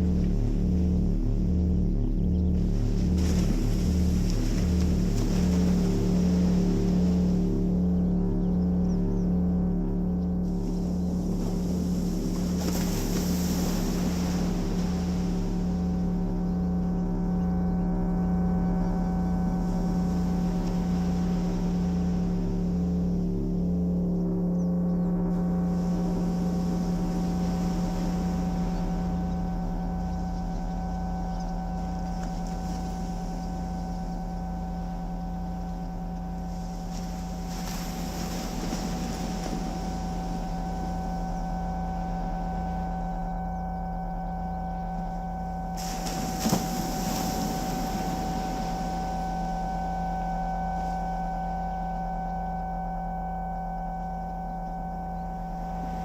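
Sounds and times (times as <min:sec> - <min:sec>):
synthesizer drone: 0:00.0 - 0:56.0.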